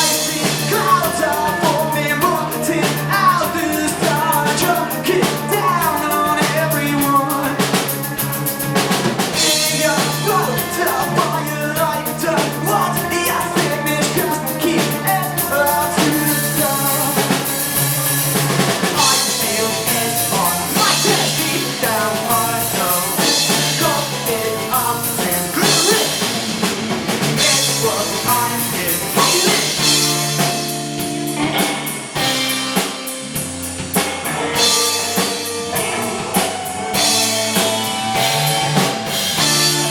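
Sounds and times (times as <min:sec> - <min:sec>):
bass drum and rimshots: 0:00.0 - 0:39.9
live rock band playing: 0:00.0 - 0:39.9.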